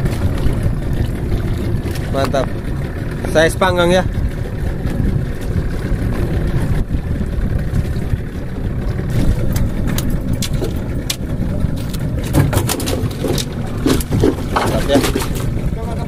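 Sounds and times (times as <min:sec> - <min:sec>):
wind and sea rumble: 0:00.0 - 0:16.0.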